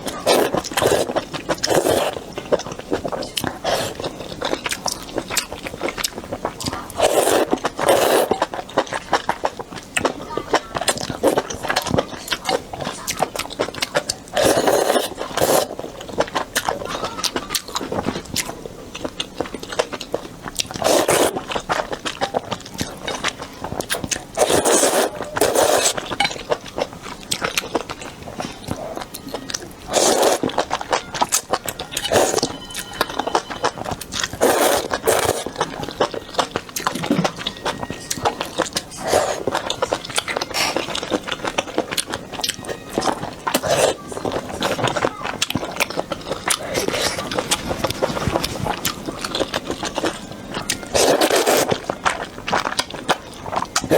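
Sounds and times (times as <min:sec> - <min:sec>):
chewing and crunching noodles: 0:00.0 - 0:53.9.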